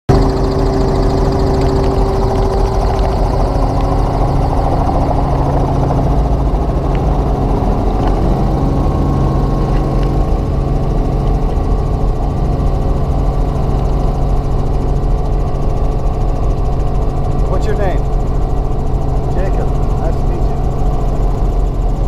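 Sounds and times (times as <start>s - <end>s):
helicopter engine and rotors: 0.1s - 22.0s.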